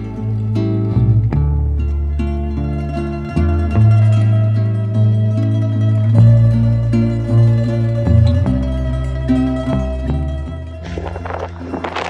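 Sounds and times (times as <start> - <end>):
bass line: 0.0 - 12.0
plucked string notes: 0.0 - 12.0.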